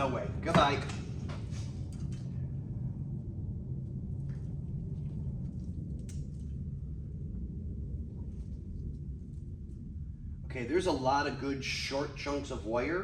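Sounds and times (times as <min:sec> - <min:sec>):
low rumble of shop noise: 0:00.0 - 0:13.0.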